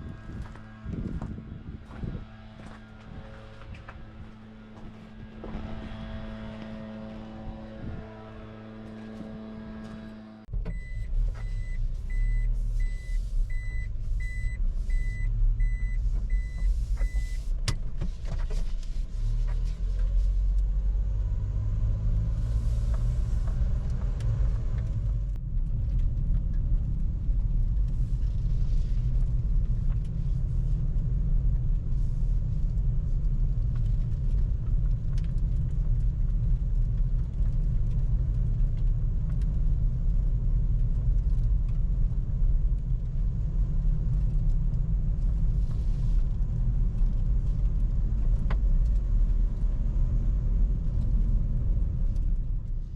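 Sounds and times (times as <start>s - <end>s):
truck engine and road rumble: 0.0s - 52.9s.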